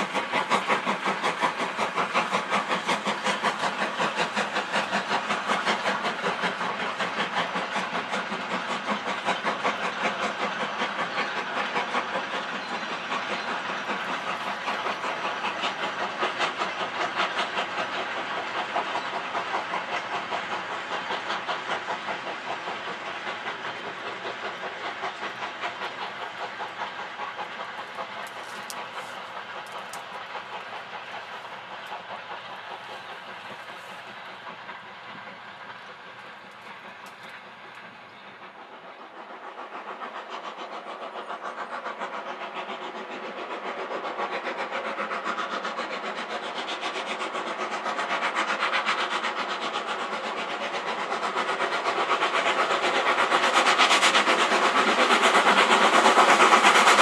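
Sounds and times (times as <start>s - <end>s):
steam locomotive exhaust beats: 0.0s - 57.0s
train wheels running on rails: 0.0s - 57.0s.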